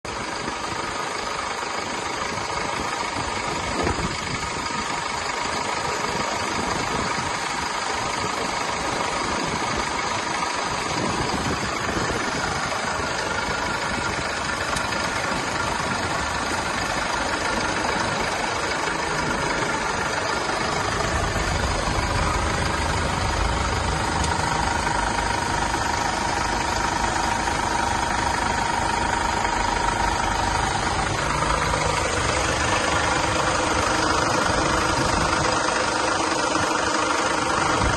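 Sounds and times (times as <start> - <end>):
van engine idling: 0.0 - 37.9.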